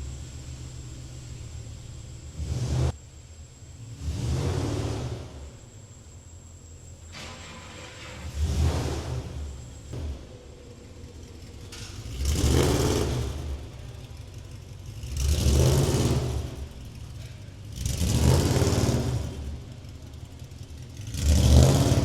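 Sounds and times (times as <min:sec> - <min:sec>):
car engine revving: 0:00.0 - 0:05.8, 0:07.1 - 0:22.0.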